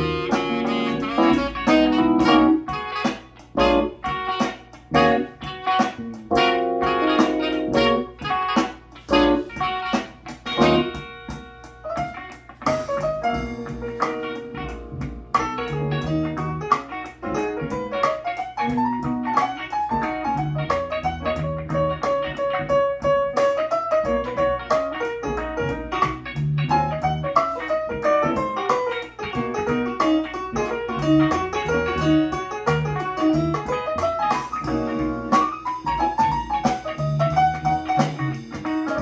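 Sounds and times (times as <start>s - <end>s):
jazzy instrumental music: 0.0s - 39.0s.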